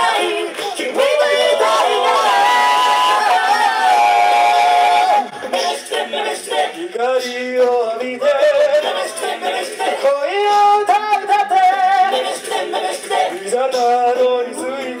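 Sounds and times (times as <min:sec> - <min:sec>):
a cappella group singing: 0:00.0 - 0:15.0.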